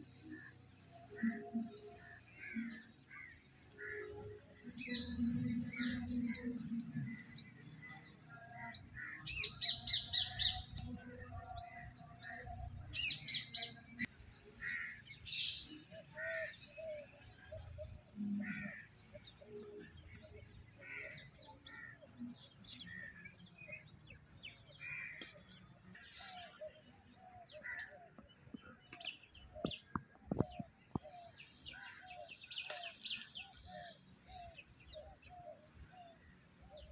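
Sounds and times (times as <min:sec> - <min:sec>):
birds chirping and calling: 0:00.0 - 0:36.9.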